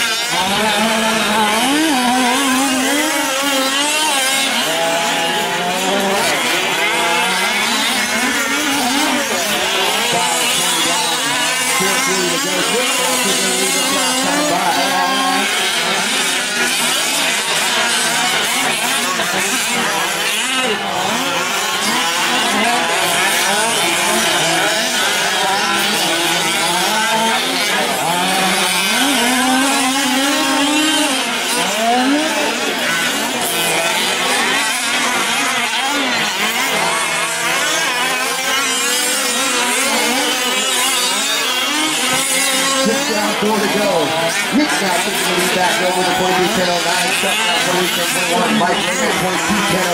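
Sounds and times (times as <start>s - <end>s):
small two-stroke engines revving: 0.0s - 49.9s.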